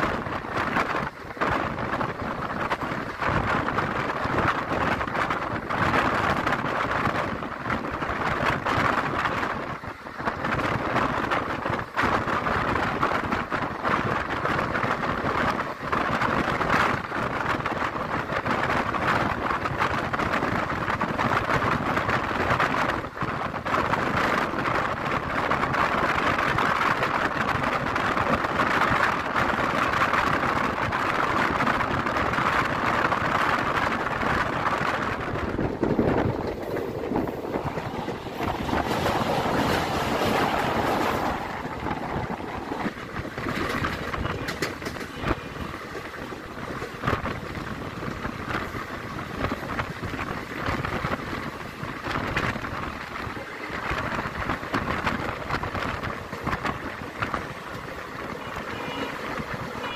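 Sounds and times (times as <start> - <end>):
train rumbling over bridge: 0.0 - 59.9
train wheels clicking: 0.0 - 59.9
train wheels on rail: 0.0 - 59.9
wind rushing: 0.0 - 59.9.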